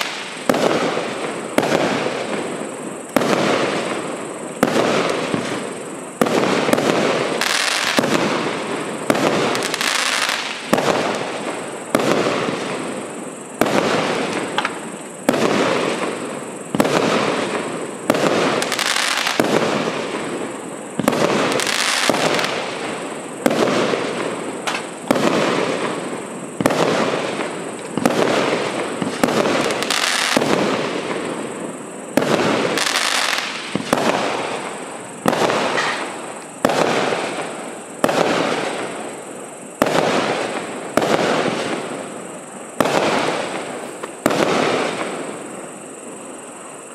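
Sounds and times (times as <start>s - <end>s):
firework shots firing: 0.0s - 20.4s, 21.0s - 31.5s, 32.1s - 39.0s, 39.8s - 42.1s, 42.8s - 45.4s.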